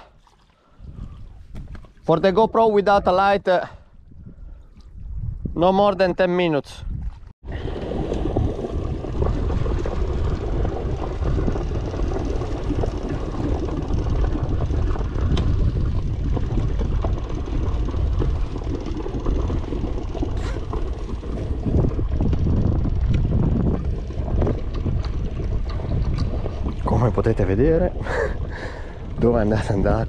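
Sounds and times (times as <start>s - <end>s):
wind buffeting microphone: 0.7s - 30.0s.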